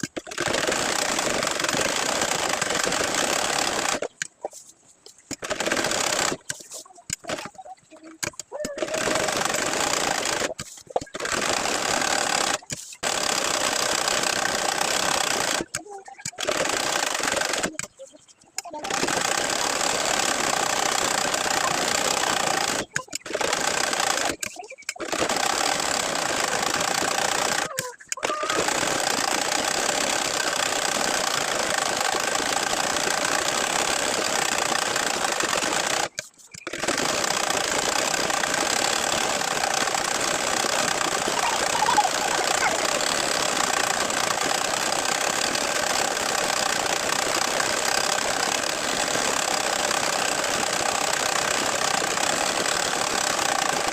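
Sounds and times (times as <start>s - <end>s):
sewing machine stitching: 0.0s - 4.3s, 5.3s - 53.9s.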